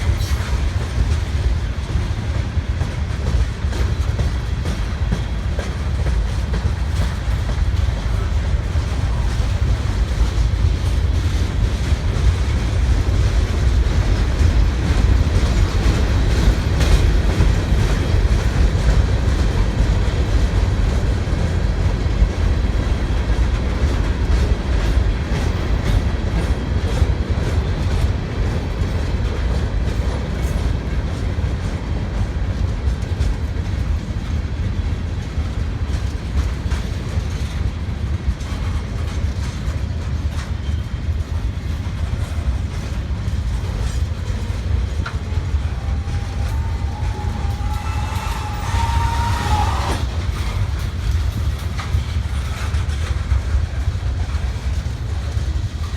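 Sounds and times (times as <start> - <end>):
rumble of wheels on rail: 0.0 - 55.9
wheels clickety-clack: 0.0 - 55.9.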